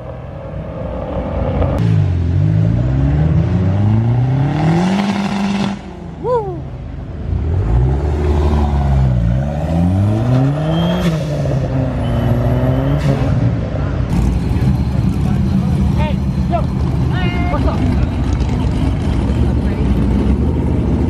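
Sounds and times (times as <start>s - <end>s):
car engine revving: 0.6s - 6.2s, 7.2s - 21.0s.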